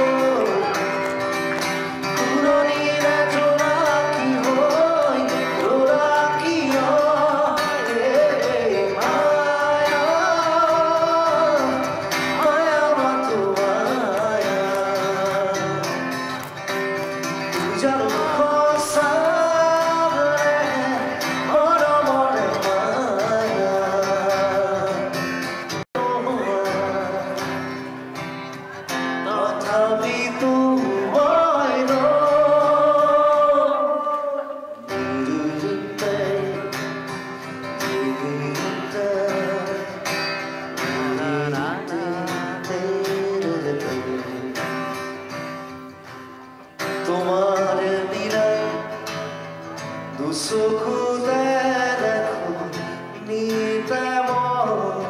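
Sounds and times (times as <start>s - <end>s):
man singing into a microphone: 0.0s - 16.5s, 17.3s - 28.1s, 28.9s - 45.2s, 46.8s - 55.0s
amplified acoustic guitar: 0.0s - 55.0s.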